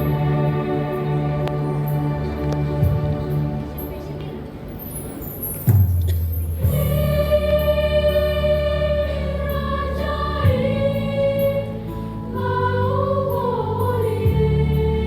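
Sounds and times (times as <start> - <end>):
choir singing held chords: 0.0 - 4.2, 6.6 - 15.0
low musical accompaniment: 0.0 - 15.0.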